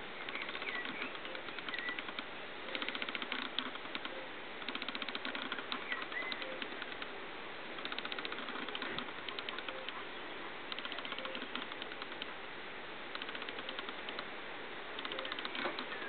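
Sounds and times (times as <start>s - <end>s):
steady hiss: 0.0s - 16.0s
rapid clicking bursts: 0.2s - 10.0s, 10.7s - 12.4s, 13.1s - 14.3s, 15.0s - 16.0s.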